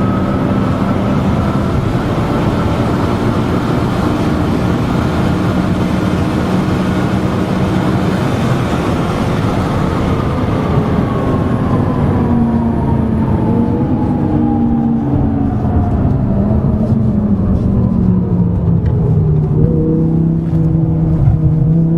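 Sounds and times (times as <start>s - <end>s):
road noise: 0.0s - 21.9s
sports car engine drone: 0.0s - 21.9s.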